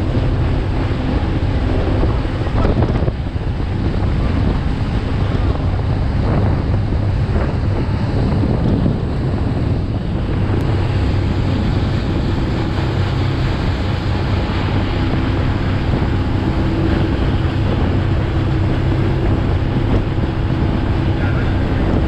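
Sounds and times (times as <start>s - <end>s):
boat engine droning: 0.0s - 22.0s
water rushing against hull: 0.0s - 22.0s
wind buffeting microphone: 0.0s - 22.0s.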